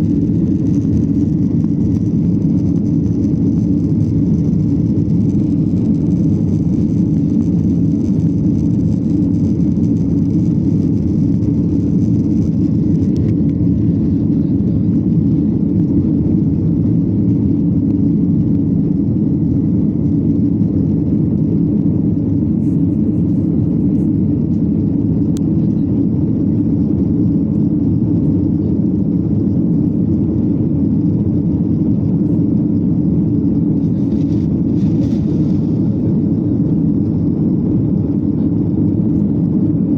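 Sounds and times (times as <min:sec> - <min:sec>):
faint high whine: 0:00.0 - 0:39.9
jet engine cabin rumble: 0:00.0 - 0:39.9.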